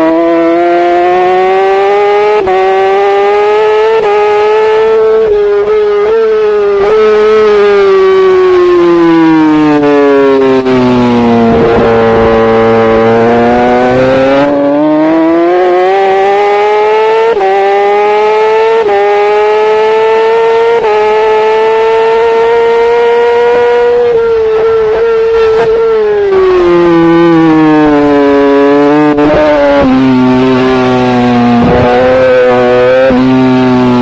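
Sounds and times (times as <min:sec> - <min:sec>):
gear changes: 0:00.0 - 0:34.0
motorbike engine revving: 0:00.0 - 0:34.0.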